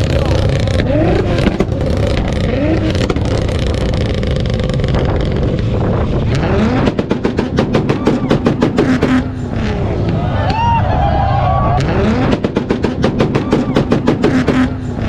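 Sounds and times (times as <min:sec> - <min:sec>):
exhaust pops and bangs: 0:00.0 - 0:10.6, 0:11.8 - 0:15.0
car engine revving: 0:00.0 - 0:15.0.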